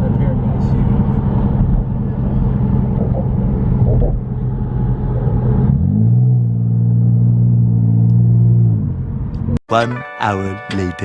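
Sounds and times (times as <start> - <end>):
car engine and road rumble: 0.0 - 9.6
steady drone rising in pitch: 0.3 - 9.6.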